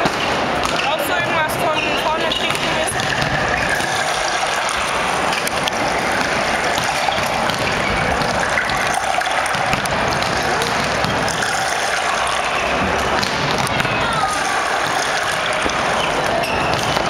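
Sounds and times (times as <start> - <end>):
sports hall din: 0.0 - 17.0.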